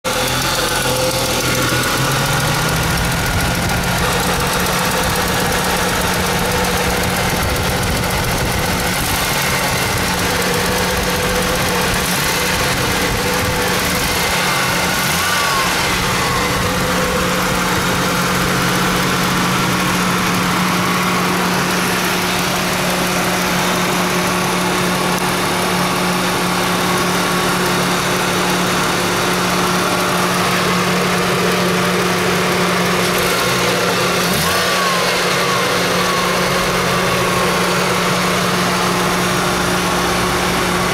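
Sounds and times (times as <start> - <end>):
car engine idling: 0.0 - 40.9
rapid engine ticking: 0.0 - 40.9.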